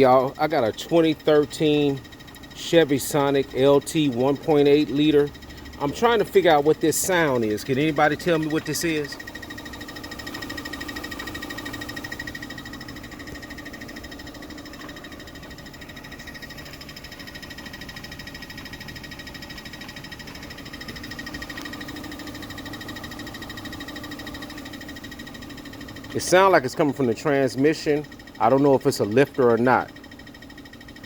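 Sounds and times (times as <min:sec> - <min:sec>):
car engine ticking: 0:00.0 - 0:31.0.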